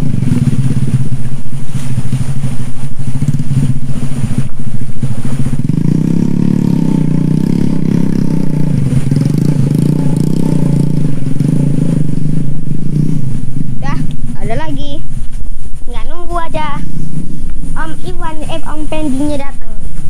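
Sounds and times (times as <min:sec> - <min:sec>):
motorcycle engine chugging: 0:00.0 - 0:20.0.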